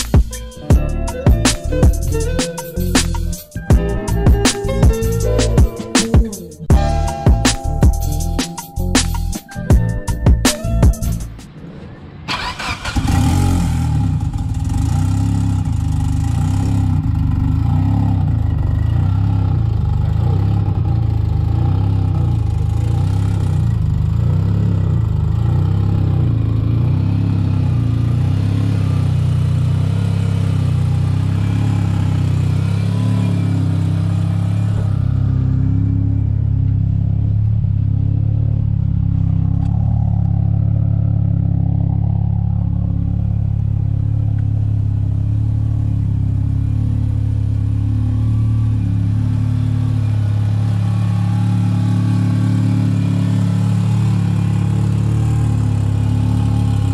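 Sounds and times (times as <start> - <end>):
car engine cranking: 0.0 - 28.3, 29.2 - 56.9
car engine idling: 0.0 - 56.9.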